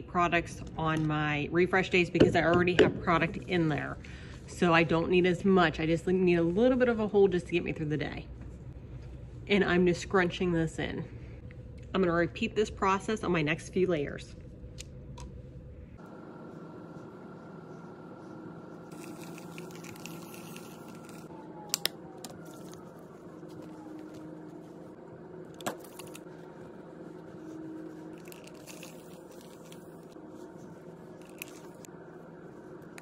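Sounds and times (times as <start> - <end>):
low room hum: 0.0 - 33.0.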